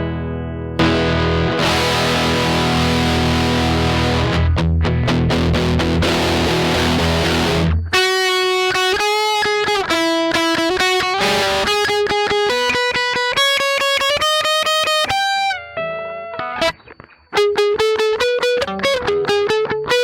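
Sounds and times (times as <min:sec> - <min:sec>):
distorted electric guitar: 0:00.0 - 0:20.0.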